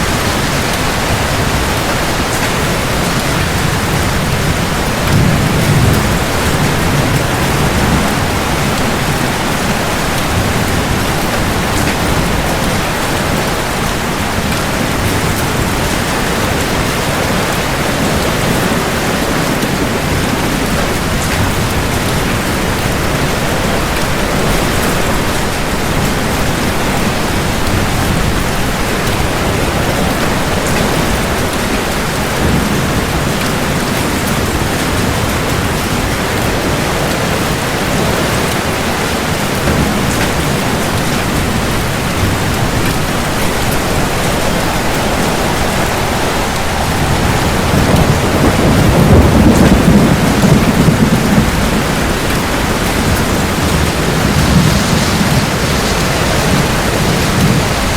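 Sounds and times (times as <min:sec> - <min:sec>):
heavy rain: 0:00.0 - 0:57.9
rolling thunder: 0:00.0 - 0:57.9.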